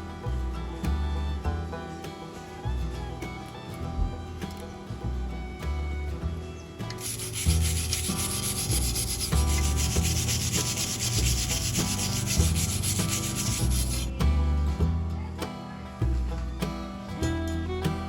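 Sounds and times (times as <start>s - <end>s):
guitar music: 0.0s - 18.0s.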